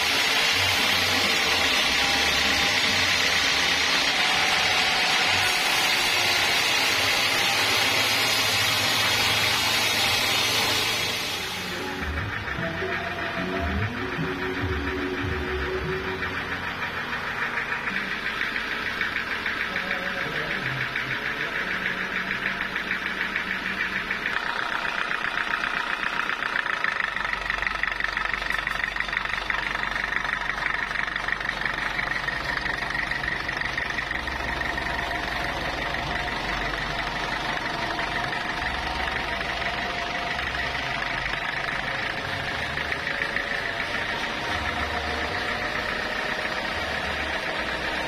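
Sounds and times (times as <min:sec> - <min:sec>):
belt-driven engine knocking: 0:00.0 - 0:48.0.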